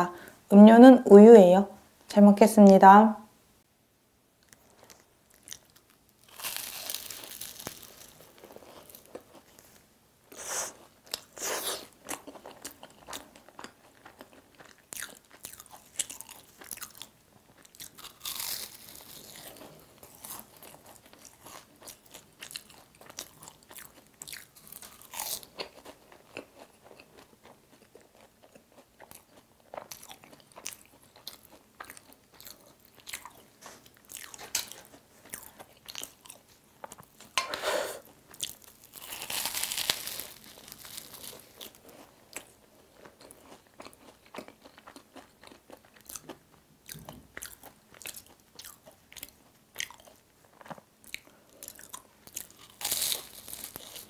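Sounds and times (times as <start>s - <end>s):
pastry crunching while chewing: 4.4s - 9.8s, 10.8s - 37.4s, 38.0s - 54.0s.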